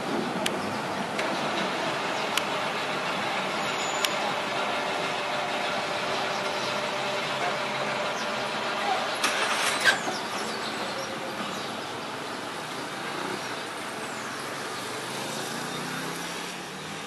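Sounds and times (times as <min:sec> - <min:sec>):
diesel railcar engine running: 0:00.0 - 0:16.6.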